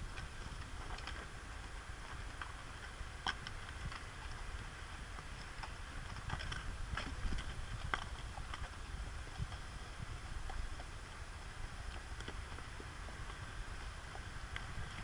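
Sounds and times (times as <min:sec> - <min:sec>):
horse hooves clopping on rock: 0:00.0 - 0:15.0.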